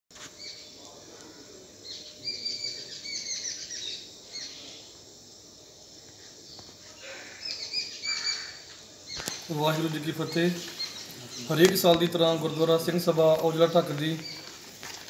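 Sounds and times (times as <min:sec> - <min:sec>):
faint outdoor background noise: 0:00.1 - 0:15.0
birds chirping: 0:00.3 - 0:05.3, 0:06.4 - 0:15.0.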